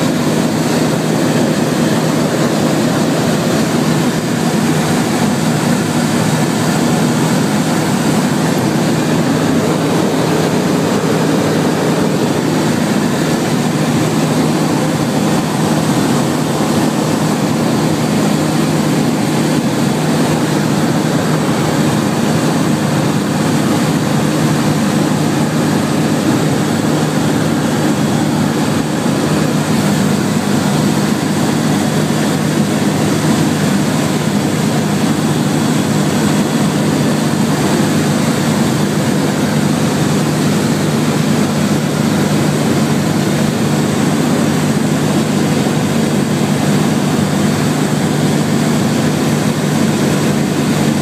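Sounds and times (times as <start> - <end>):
aircraft engine drone: 0.0 - 51.0
airflow noise: 0.0 - 51.0.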